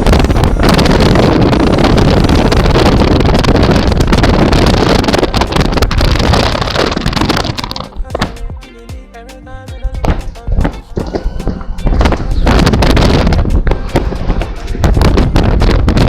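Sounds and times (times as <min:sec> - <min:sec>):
wind buffeting microphone: 0:00.0 - 0:07.8, 0:10.1 - 0:16.0.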